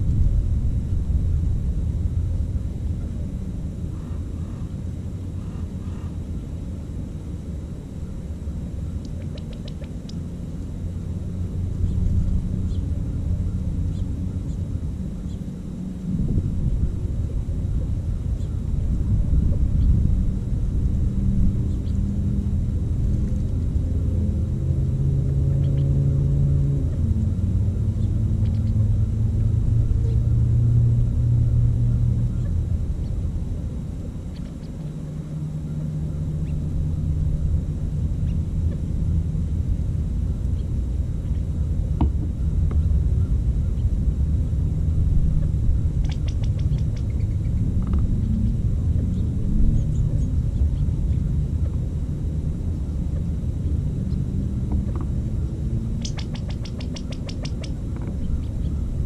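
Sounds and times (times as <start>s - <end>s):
distant engine rumble: 0.0s - 59.0s.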